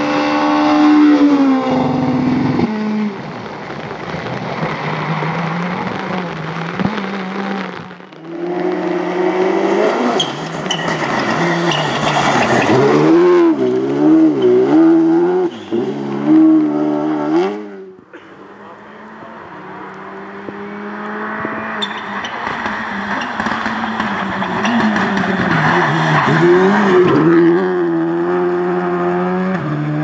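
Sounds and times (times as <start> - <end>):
car engine approaching: 0.0 - 30.0
rally car engine revving: 0.0 - 30.0
car sliding on gravel: 1.7 - 16.5, 18.2 - 28.8.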